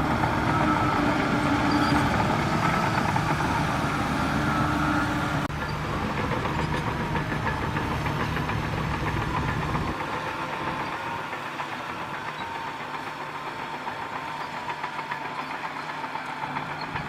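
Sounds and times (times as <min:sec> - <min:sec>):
heavy diesel engine clattering: 0:00.0 - 0:17.0.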